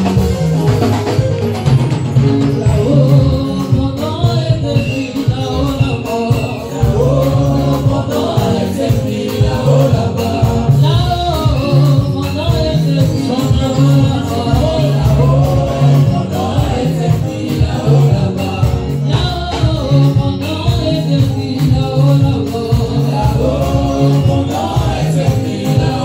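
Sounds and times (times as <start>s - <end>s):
band playing: 0.0s - 26.0s
bass guitar: 0.0s - 26.0s
congas: 0.0s - 26.0s
drum kit: 0.0s - 26.0s
voices singing together: 2.6s - 26.0s.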